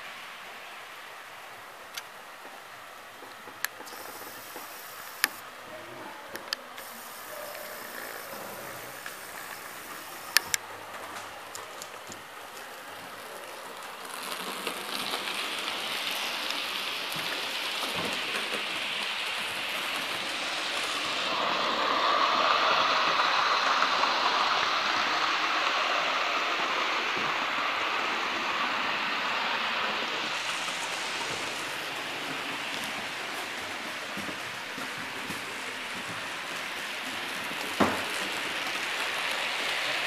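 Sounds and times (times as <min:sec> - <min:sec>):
model train whirring on rails: 0:00.0 - 0:40.0.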